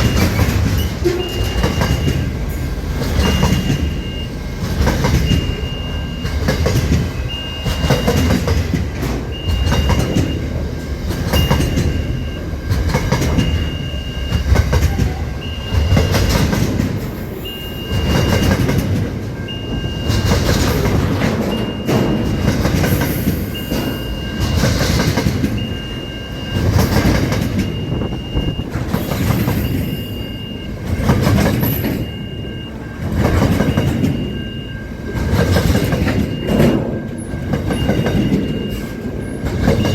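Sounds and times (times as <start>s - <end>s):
train wagons clattering rumble: 0.0s - 39.9s.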